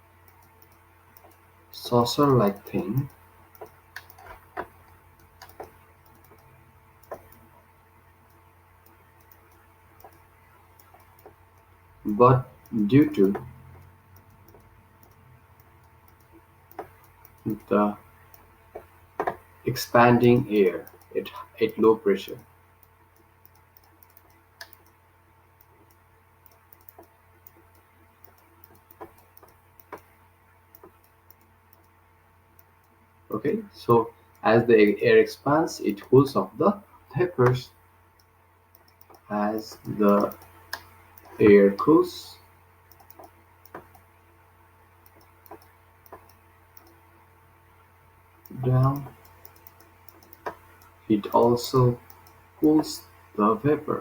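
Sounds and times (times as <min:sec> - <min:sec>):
faint steady hum: 0:00.0 - 0:54.0
light clicks and taps: 0:00.2 - 0:07.5, 0:08.2 - 0:11.7, 0:12.6 - 0:25.0, 0:25.6 - 0:33.0, 0:37.4 - 0:42.0, 0:42.9 - 0:44.1, 0:45.0 - 0:47.1, 0:48.4 - 0:53.2.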